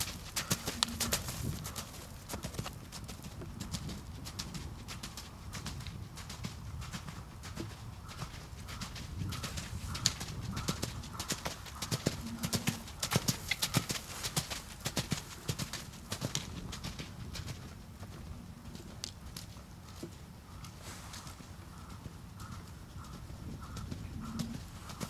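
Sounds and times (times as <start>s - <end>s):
horse hoofbeats on dirt: 0.0s - 25.0s.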